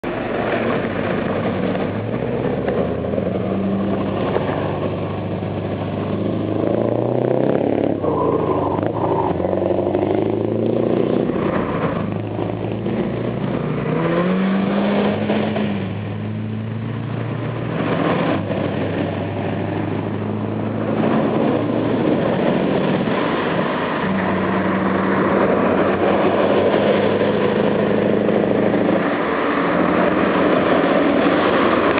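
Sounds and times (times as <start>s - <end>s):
diesel truck engine revving: 0.0s - 31.9s.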